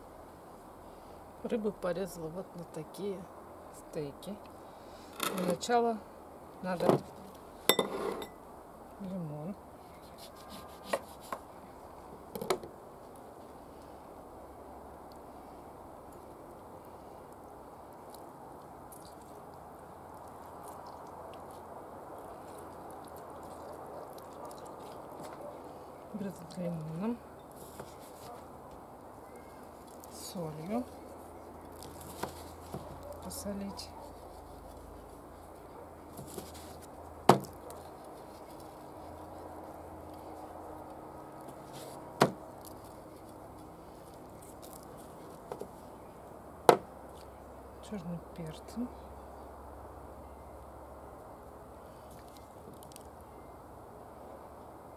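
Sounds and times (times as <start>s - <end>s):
faint background noise: 0.0s - 54.9s
steady background hiss: 0.0s - 54.9s.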